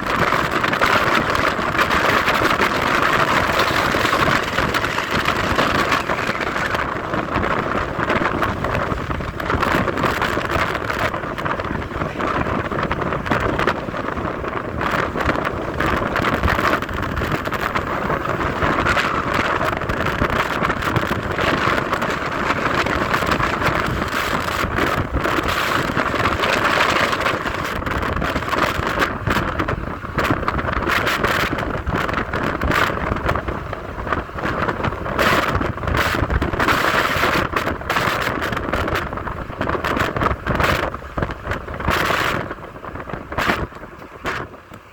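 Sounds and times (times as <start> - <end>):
road noise: 0.0 - 44.9
wind buffeting microphone: 0.0 - 44.9.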